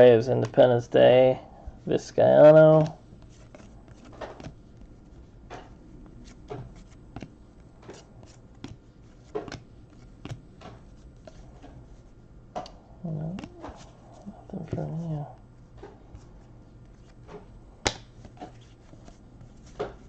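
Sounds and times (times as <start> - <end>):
cards flipped and slid by hand: 2.7 - 15.0, 15.8 - 20.0.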